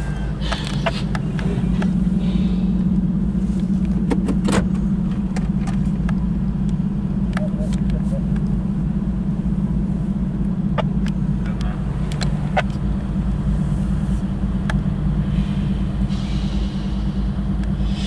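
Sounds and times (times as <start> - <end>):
diesel locomotives rumbling: 0.0 - 18.0.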